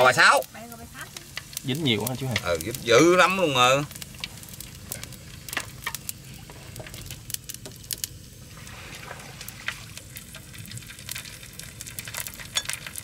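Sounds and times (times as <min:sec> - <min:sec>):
oil sizzling in a wok: 0:00.0 - 0:13.0
spitting oil crackles: 0:00.0 - 0:13.0.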